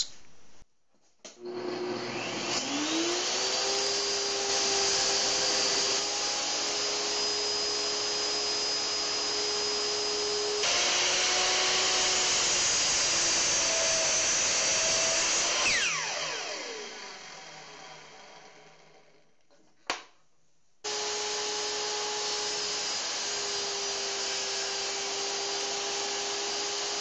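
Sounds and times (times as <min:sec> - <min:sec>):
table saw running: 0:01.4 - 0:19.1, 0:20.9 - 0:27.0.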